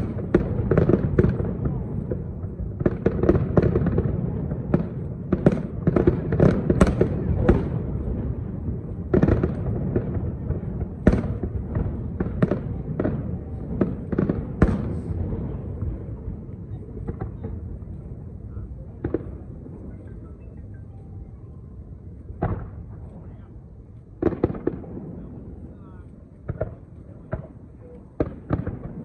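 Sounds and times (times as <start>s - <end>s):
firework bangs: 0.0s - 18.3s, 18.9s - 20.0s, 22.4s - 23.3s, 24.2s - 29.0s.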